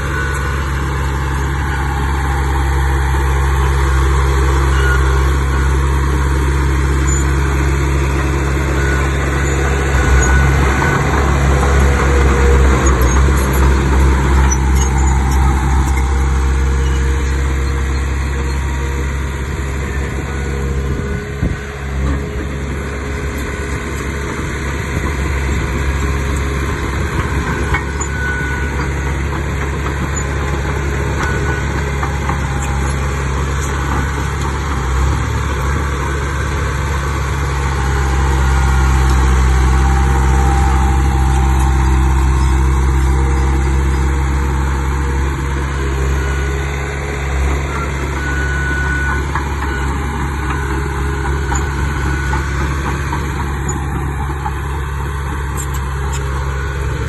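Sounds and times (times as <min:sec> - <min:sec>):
heavy machinery diesel engine rumbling: 0:00.0 - 0:57.0.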